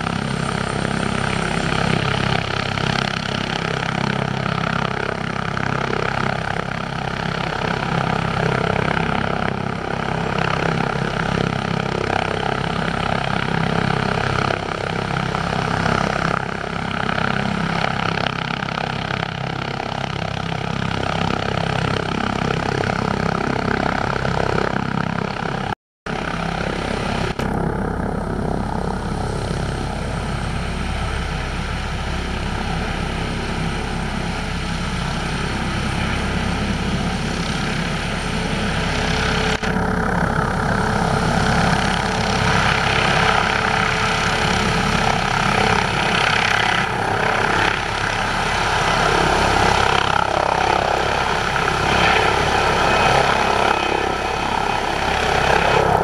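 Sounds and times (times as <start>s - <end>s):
helicopter rotor noise: 0.0s - 56.0s
helicopter turbine whine: 0.0s - 56.0s.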